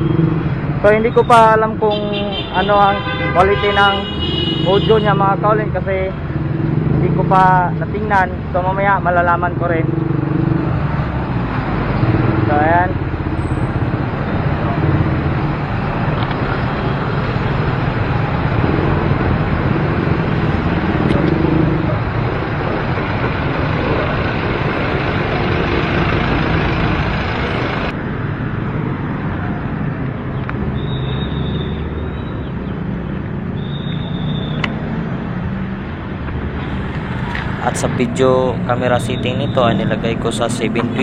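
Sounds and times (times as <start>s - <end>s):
traffic engine rumble: 0.0s - 41.0s.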